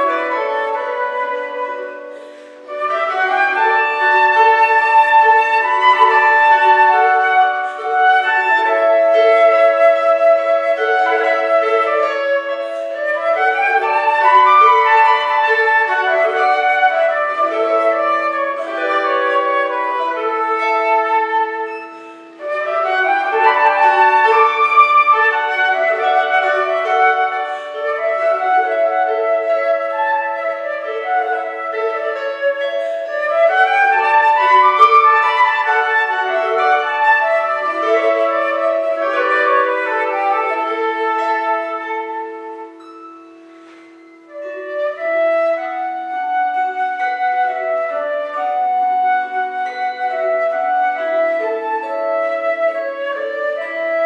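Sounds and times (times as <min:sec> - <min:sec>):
flute playing melody: 0:00.0 - 0:54.0
plucked psaltery: 0:00.0 - 0:54.0.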